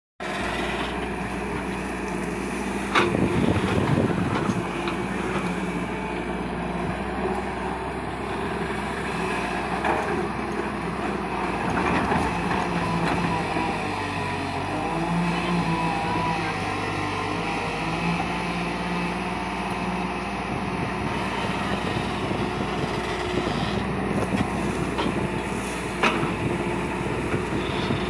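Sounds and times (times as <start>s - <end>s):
excavator diesel engine running: 0.2s - 28.0s.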